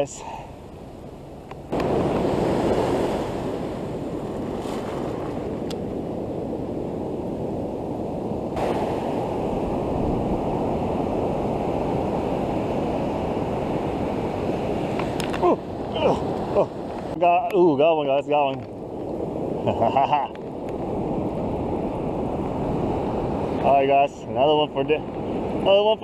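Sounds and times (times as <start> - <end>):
wind on microphone: 1.7 - 17.3, 18.4 - 26.0
waves washing over sand: 1.7 - 26.0.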